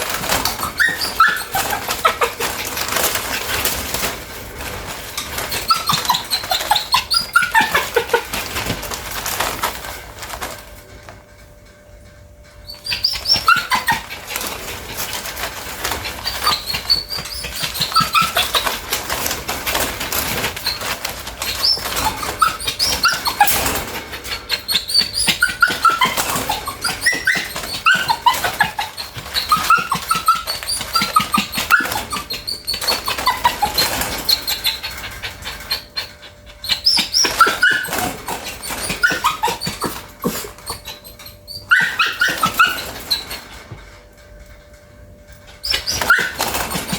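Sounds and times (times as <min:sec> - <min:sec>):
dog whining: 0:00.0 - 0:10.9, 0:12.6 - 0:46.9.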